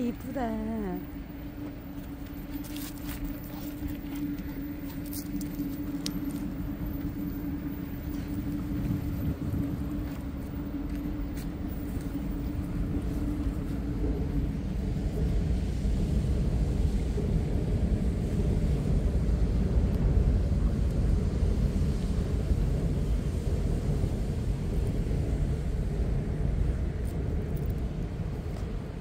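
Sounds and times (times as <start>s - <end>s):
road traffic hum: 0.0s - 29.0s.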